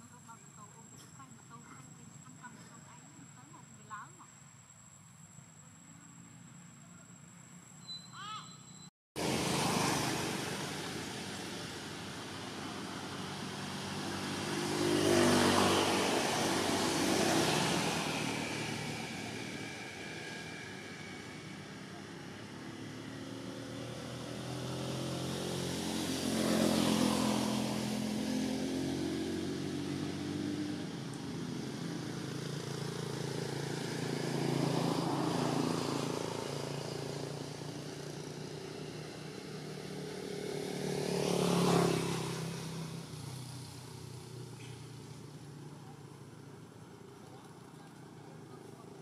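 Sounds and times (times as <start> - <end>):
vehicles passing by: 0.0 - 49.0.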